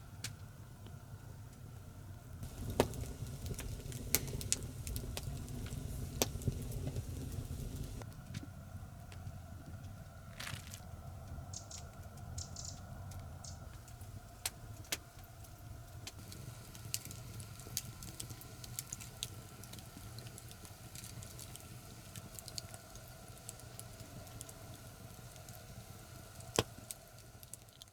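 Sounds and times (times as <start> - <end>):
wood fire crackling in a stove: 0.0 - 27.9.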